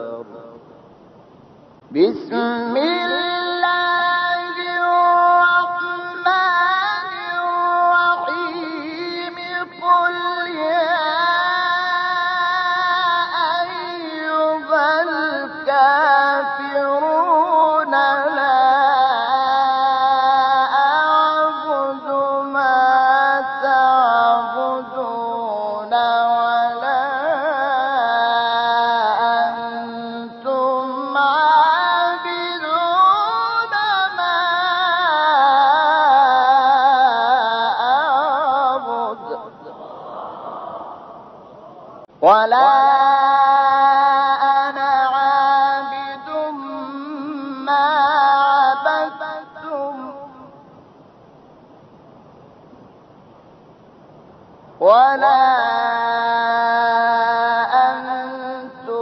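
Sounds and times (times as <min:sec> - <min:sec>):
man reciting melodically: 0:00.0 - 0:00.9, 0:01.7 - 0:40.2, 0:42.0 - 0:51.0, 0:54.8 - 0:59.0.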